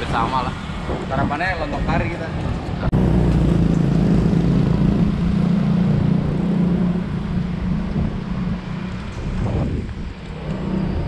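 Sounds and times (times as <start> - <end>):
bicycle tyres rolling on cobblestones: 0.7 - 11.0.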